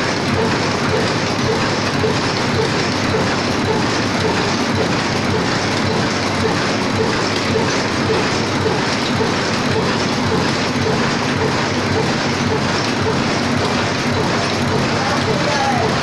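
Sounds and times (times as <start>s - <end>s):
machine clattering rhythmically: 0.0s - 16.0s.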